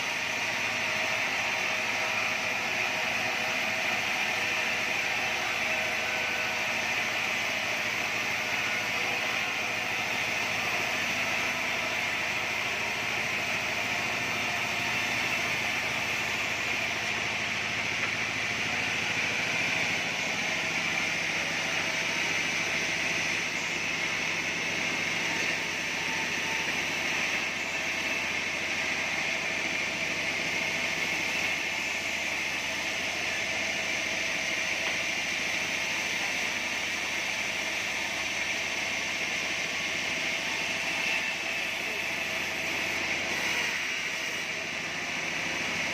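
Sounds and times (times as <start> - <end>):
band sawmill running: 0.0 - 45.9.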